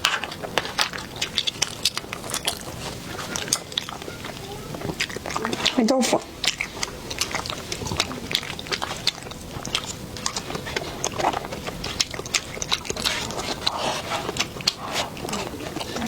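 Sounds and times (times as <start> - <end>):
lip smacks and mouth clicks: 0.0 - 16.0
wet chewing: 0.0 - 16.0.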